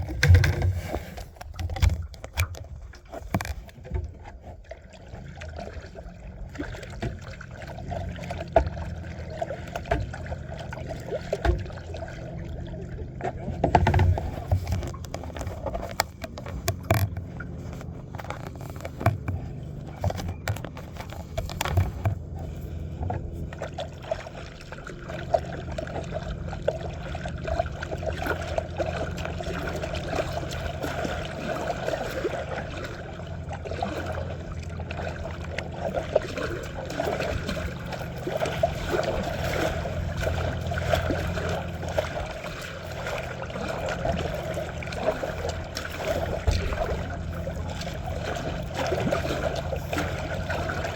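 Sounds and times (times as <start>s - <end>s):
paddle strokes splashing water: 0.0s - 50.9s.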